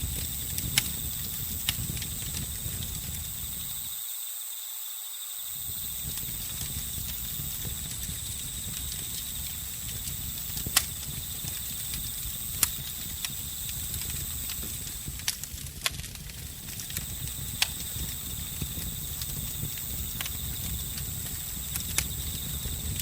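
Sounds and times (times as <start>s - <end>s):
fire pops: 0.0s - 3.9s, 5.6s - 23.0s
campfire crackling: 0.0s - 4.0s, 5.5s - 23.0s
crickets chirping: 0.0s - 23.0s.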